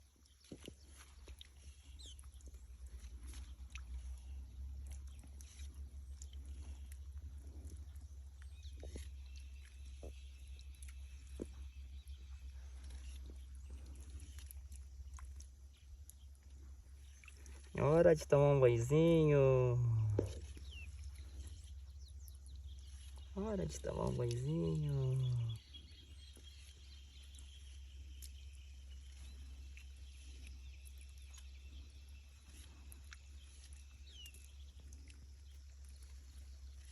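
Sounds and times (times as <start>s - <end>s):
birds chirping: 0.0s - 36.9s
steady low hum: 0.0s - 36.9s.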